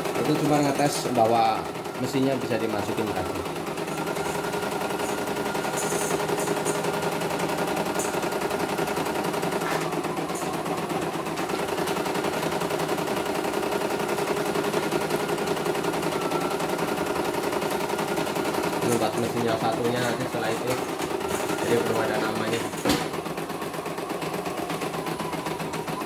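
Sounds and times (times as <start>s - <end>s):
embroidery machine needle rattle: 0.0s - 26.0s
motor hum: 0.0s - 26.0s.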